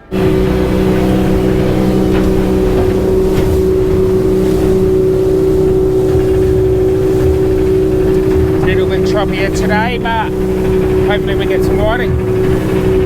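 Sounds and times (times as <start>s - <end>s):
hull and water rumble: 0.0s - 13.0s
outboard engine drone: 0.0s - 13.0s.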